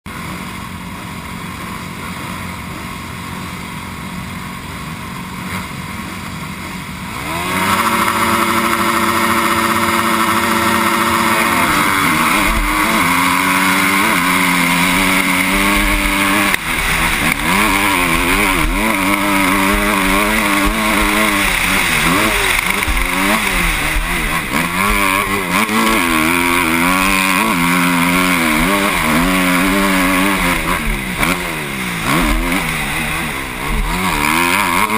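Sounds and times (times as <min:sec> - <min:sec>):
motorbike engine revving: 0:00.1 - 0:34.9.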